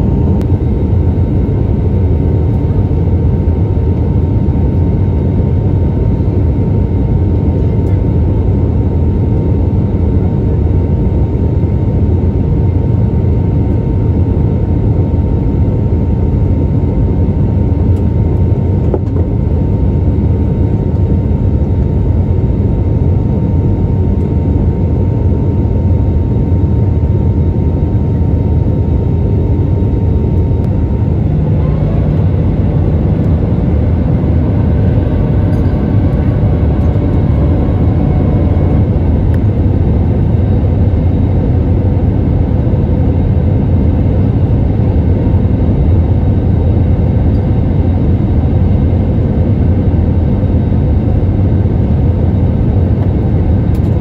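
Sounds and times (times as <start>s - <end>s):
airplane cabin engine rumble: 0.0s - 54.0s
faint whine: 0.0s - 54.0s
low hum: 0.0s - 54.0s.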